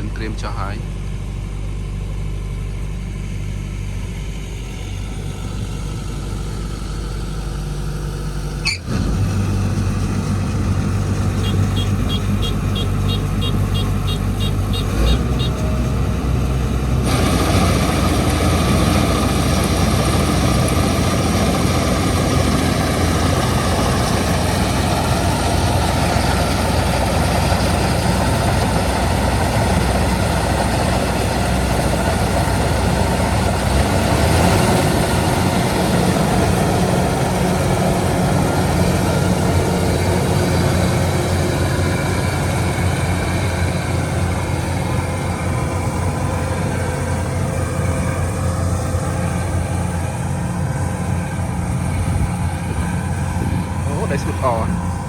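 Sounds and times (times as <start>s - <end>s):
harvester engine running: 0.0s - 55.0s.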